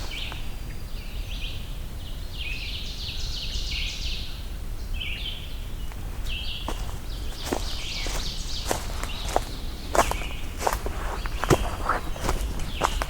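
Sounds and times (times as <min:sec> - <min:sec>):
wren singing trills: 0:00.0 - 0:13.0.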